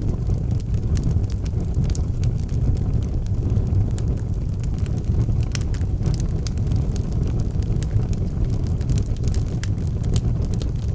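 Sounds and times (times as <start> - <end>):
blizzard wind rumbling: 0.0 - 10.9
wood fire crackling and popping: 0.0 - 10.9.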